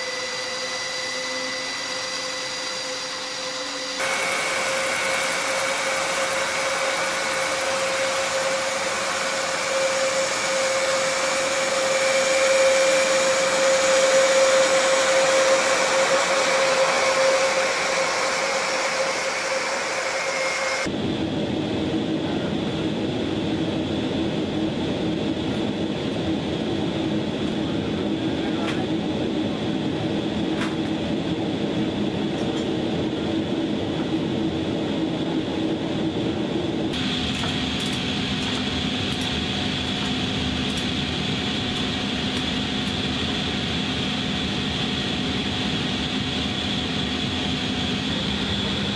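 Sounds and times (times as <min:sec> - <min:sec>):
turboprop aircraft drone with whine: 0:00.0 - 0:48.9.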